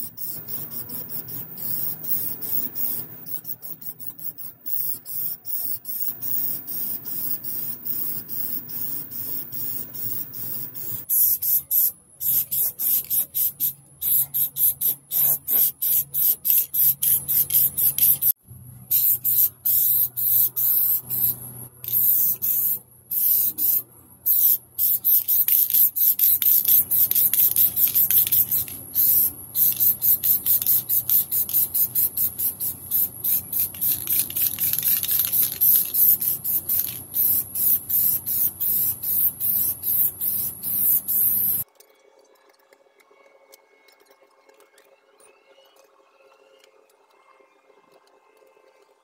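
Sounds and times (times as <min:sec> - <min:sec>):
spray paint can hissing bursts: 0:00.0 - 0:41.6.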